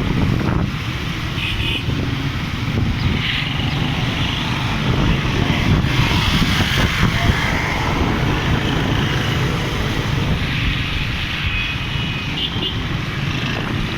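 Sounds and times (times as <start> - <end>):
vehicle engine and road rumble: 0.0 - 13.9.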